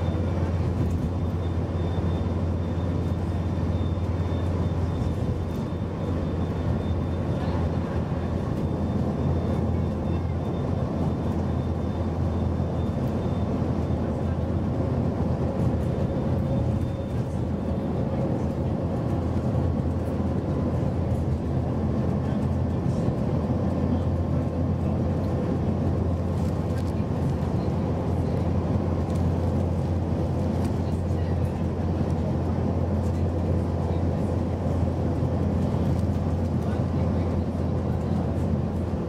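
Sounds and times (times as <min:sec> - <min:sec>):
bus diesel engine drone: 0:00.0 - 0:39.0
tyre and road noise: 0:00.0 - 0:39.0.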